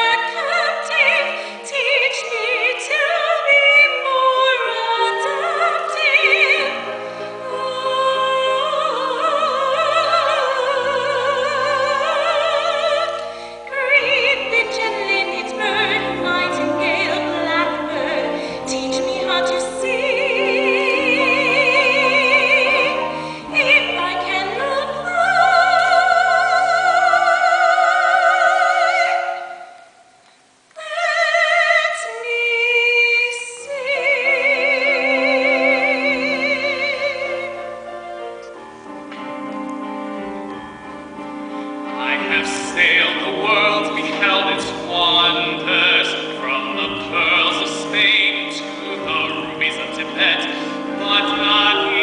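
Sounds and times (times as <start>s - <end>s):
light musical accompaniment: 0.0s - 29.4s, 33.3s - 52.0s
soprano singing with vibrato: 0.0s - 30.1s, 30.7s - 52.0s.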